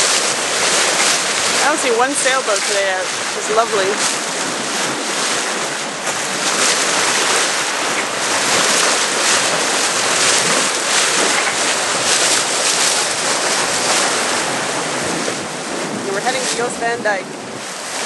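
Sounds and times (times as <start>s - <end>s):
water hissing along hull: 0.0s - 18.0s
wind blowing across microphone: 0.0s - 18.0s.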